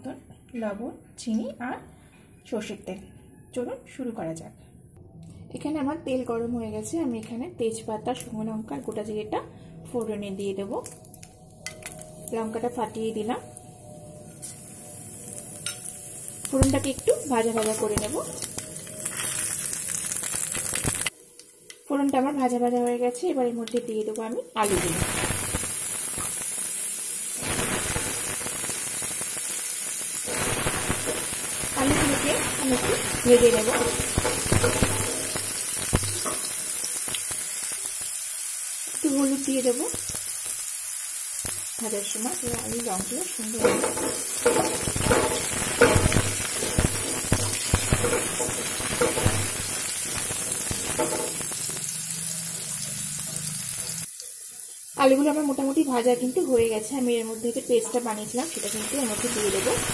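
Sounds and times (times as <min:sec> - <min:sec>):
potatoes sizzling in hot oil: 0:10.0 - 0:59.9.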